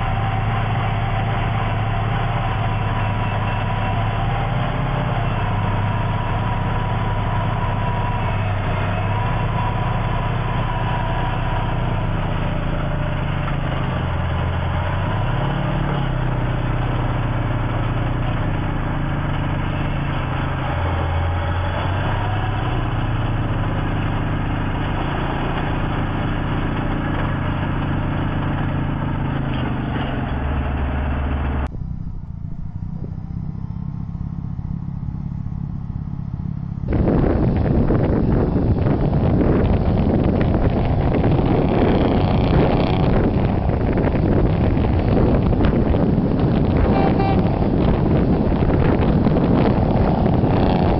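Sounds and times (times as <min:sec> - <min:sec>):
truck engine driving snow blower: 0:00.0 - 0:31.7, 0:32.4 - 0:50.9
thinner snow blower engine: 0:00.0 - 0:50.9.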